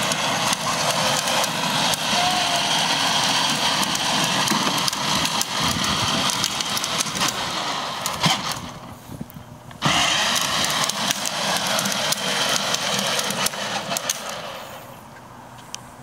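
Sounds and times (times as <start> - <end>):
toy motorcycle rolling on asphalt: 0.0 - 15.0.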